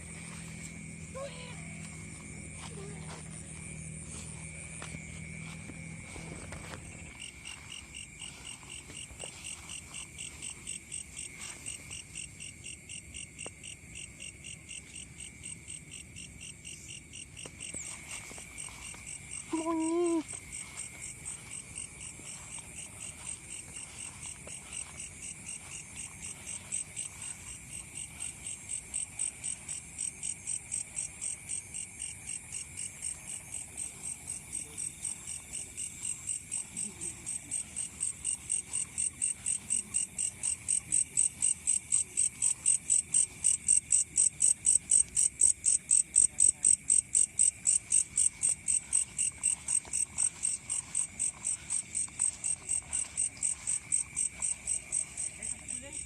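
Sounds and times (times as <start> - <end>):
crickets chirping: 0.0 - 56.0
high insect drone: 0.0 - 56.0.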